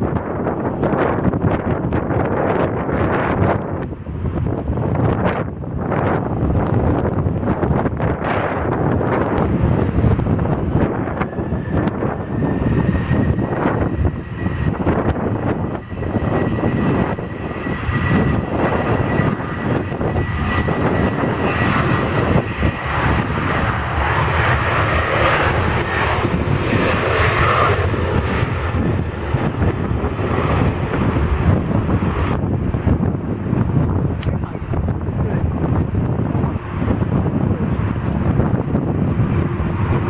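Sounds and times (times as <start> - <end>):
jet engines rumbling: 0.0 - 40.0
wind buffeting microphone: 0.0 - 40.0.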